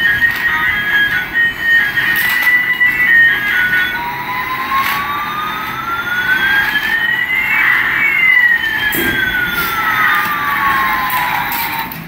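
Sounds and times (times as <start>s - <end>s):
falling electronic siren tone: 0.0s - 12.0s
rising electronic siren tone: 0.0s - 12.0s.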